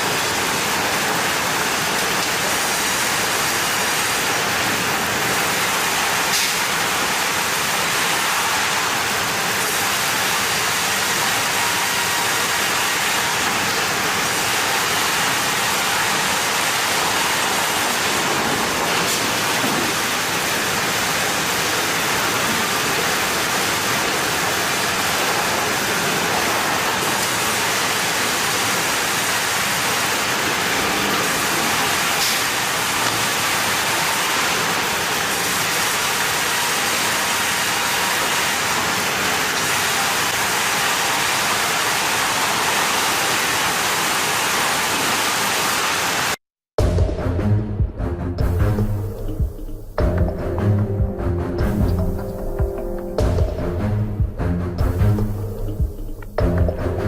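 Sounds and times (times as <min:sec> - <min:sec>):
sawmill machinery rushing: 0:00.0 - 0:46.4.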